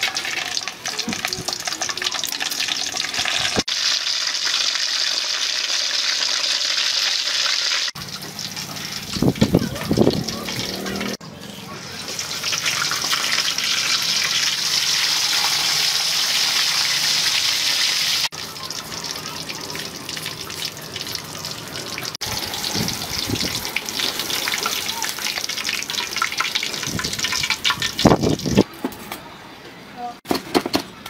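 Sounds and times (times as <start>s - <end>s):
meat sizzling in hot oil: 0.0s - 10.7s, 12.0s - 28.6s.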